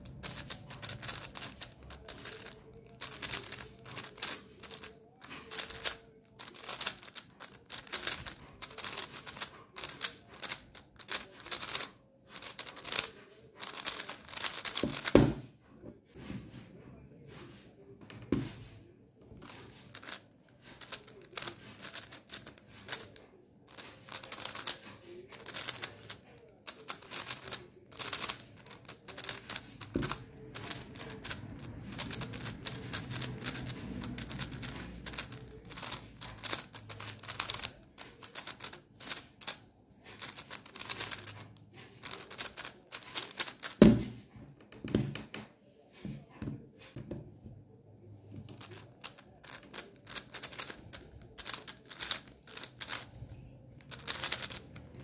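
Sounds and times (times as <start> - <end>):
rapid plastic clicking: 0.0 - 15.3, 19.9 - 39.6, 40.2 - 43.8, 48.6 - 53.2, 53.8 - 55.0.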